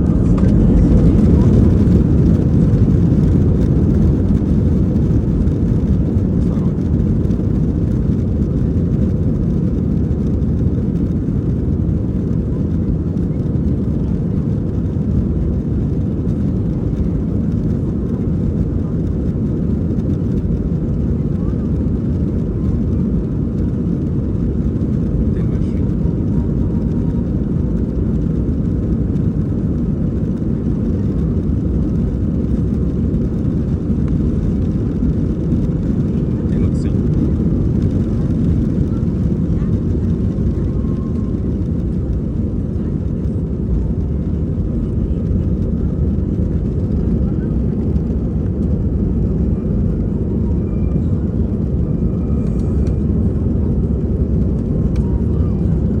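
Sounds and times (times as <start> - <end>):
airliner engine rumble: 0.0 - 56.0.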